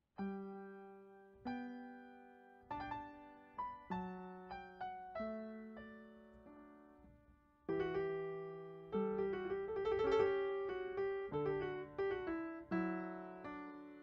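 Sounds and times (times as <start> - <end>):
piano music: 0.2 - 14.0.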